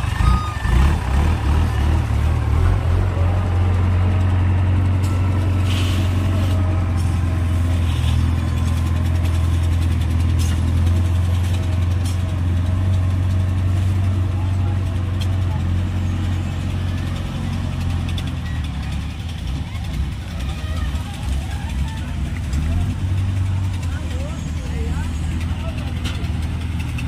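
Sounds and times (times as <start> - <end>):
diesel engine running at low revs: 0.0 - 27.0.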